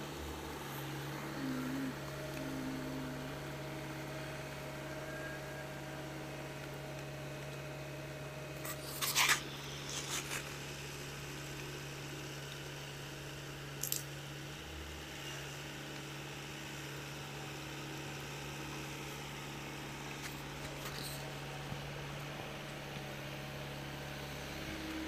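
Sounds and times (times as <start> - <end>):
distant excavator engine hum: 0.0 - 25.0.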